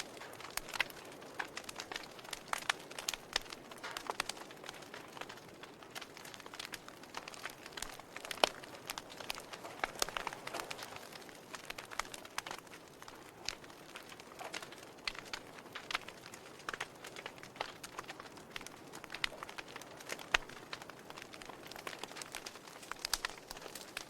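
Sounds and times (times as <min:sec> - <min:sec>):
logs crackling in fireplace: 0:00.0 - 0:24.0.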